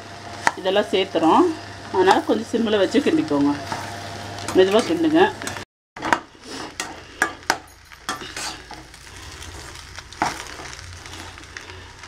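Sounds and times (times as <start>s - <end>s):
soft sizzle: 0.0s - 5.6s, 6.3s - 12.0s.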